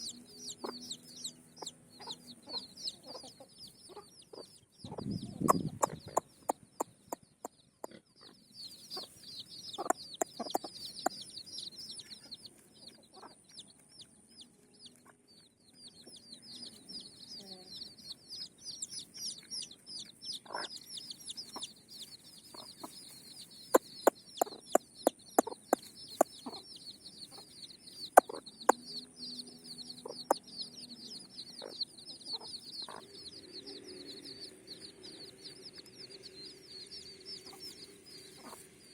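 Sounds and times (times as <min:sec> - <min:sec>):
chickens clucking: 0:00.0 - 0:38.9
high chirping: 0:00.0 - 0:38.9.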